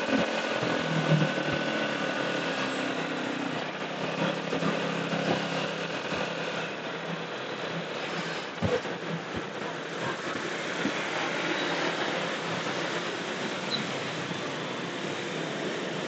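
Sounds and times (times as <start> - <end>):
motorcycle engine running: 0.0 - 16.0
road and traffic noise: 0.0 - 16.0.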